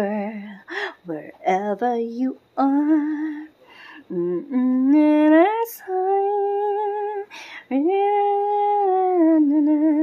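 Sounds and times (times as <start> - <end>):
woman singing slow tune: 0.0 - 10.0.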